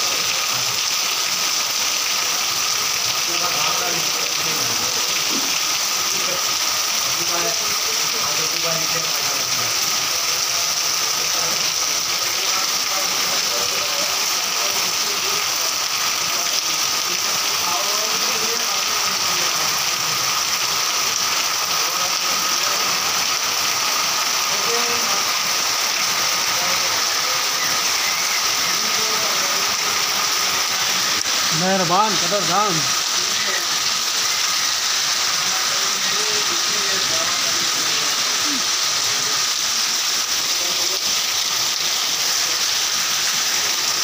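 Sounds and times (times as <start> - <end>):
heavy rain on metal roofs: 0.0 - 44.0
water running off roof edges: 0.0 - 44.0.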